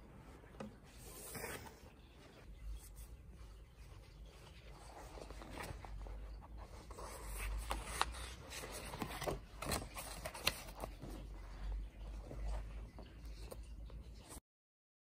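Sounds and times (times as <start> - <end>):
book pages rustling: 0.1 - 14.4.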